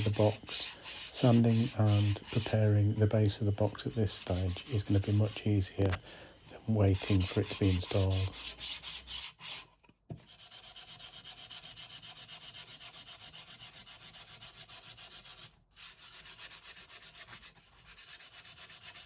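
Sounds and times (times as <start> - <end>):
sandpaper rubbing on wood: 0.0 - 6.0, 6.7 - 19.0.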